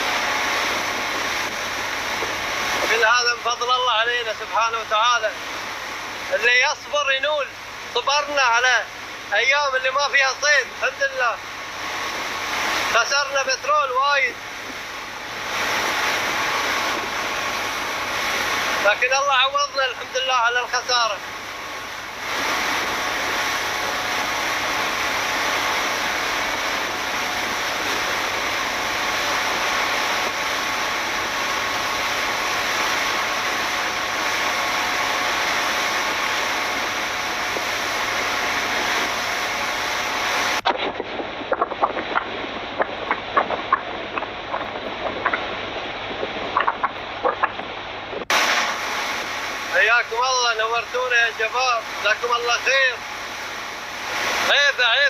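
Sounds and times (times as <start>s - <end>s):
faint steady whine: 0.0s - 55.0s
speedboat engine and water rush: 0.0s - 55.0s.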